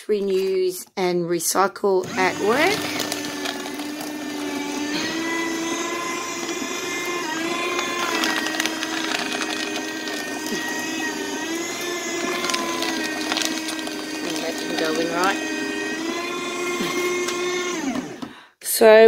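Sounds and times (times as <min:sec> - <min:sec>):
paper shredder motor whining: 0:02.0 - 0:18.4.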